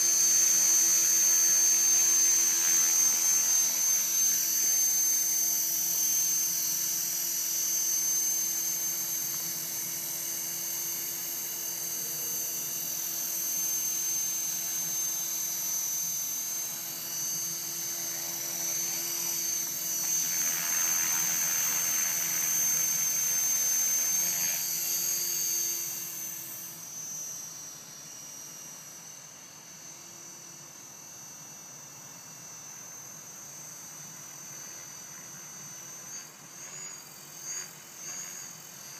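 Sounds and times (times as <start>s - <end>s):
rc helicopter high-pitched whine: 0.0s - 38.9s.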